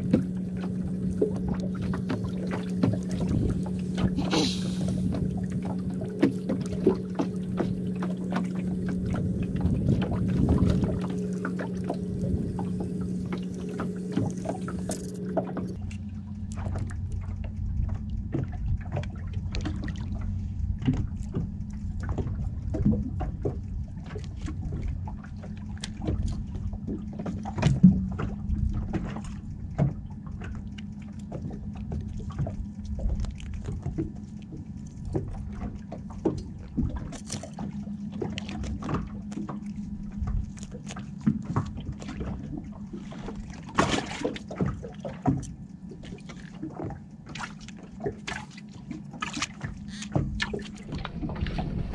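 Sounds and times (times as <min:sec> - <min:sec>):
boat motor humming: 0:00.0 - 0:51.9.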